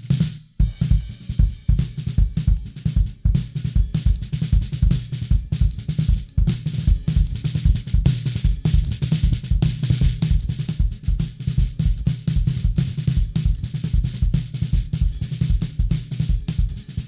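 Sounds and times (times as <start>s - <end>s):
drum kit playing: 0.0s - 17.0s.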